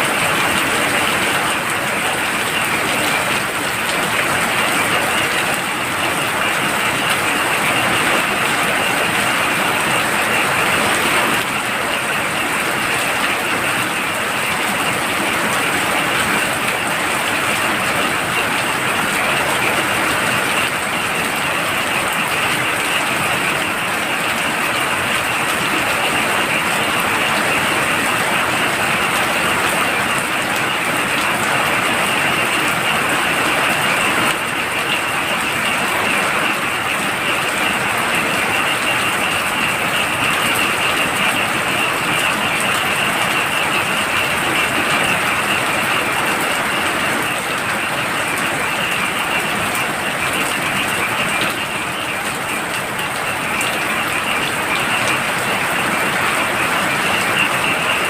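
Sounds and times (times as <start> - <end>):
heavy rain falling: 0.0 - 58.0
frogs calling: 0.1 - 58.0.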